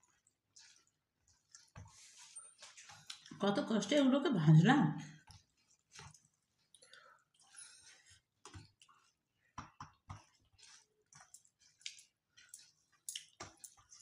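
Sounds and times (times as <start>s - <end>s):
soft chewing and mouth smacks: 0.0s - 3.4s, 5.2s - 14.0s.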